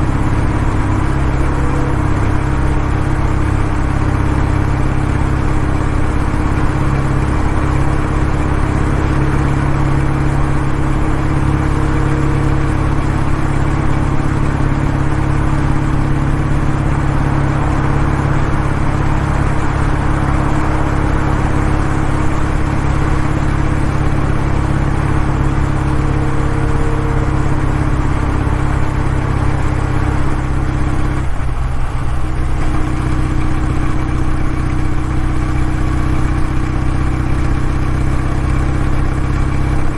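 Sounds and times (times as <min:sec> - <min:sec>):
motorcycle engine exhaust running: 0:00.0 - 0:39.9.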